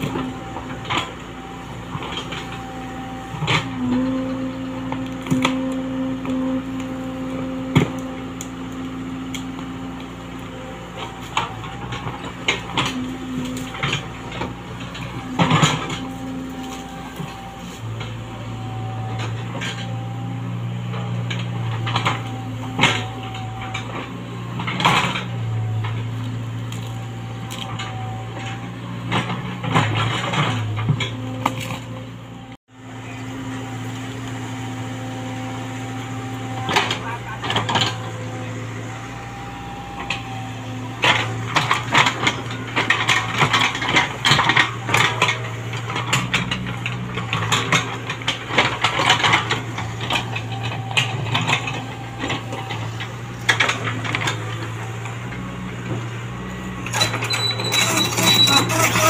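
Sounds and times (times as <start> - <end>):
excavator diesel and hydraulic drone: 0.0 - 59.0.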